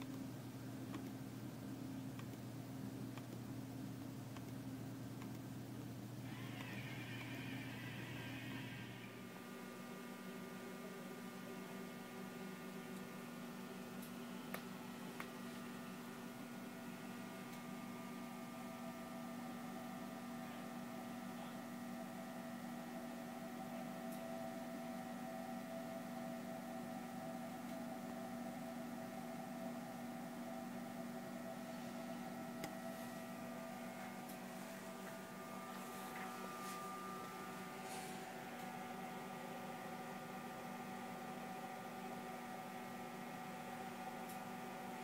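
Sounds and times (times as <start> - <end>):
refrigeration compressor humming: 0.0 - 45.0.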